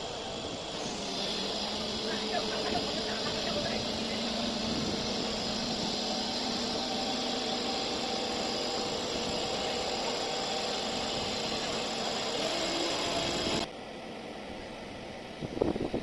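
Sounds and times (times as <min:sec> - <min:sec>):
crane engine and hydraulics running: 0:00.0 - 0:16.0.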